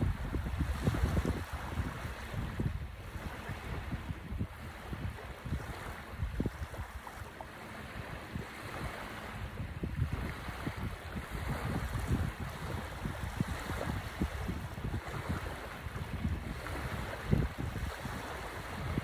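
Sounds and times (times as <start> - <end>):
small waves washing onto sand: 0.0 - 19.0
wind gusting on microphone: 0.0 - 19.0.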